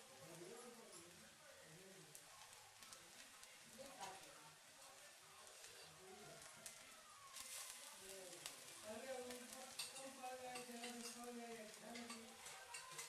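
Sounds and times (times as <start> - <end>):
crackles and pops: 0.0 - 13.0
onion and garlic sizzling in oil: 0.0 - 13.0.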